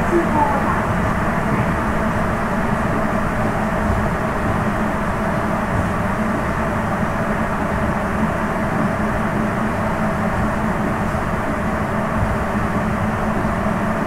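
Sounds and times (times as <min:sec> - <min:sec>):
subway train interior rumble: 0:00.0 - 0:14.0.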